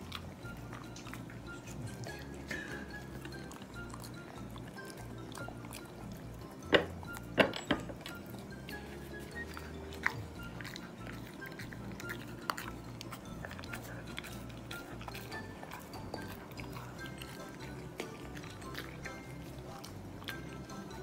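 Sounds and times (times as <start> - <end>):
dog chewing crunchy food: 0.0 - 21.0
soft background music: 0.0 - 21.0.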